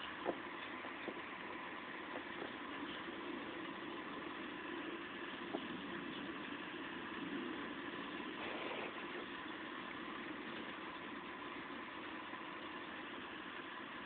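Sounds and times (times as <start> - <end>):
light ticks of rain: 0.0 - 14.0
steady rain hissing: 0.0 - 14.0.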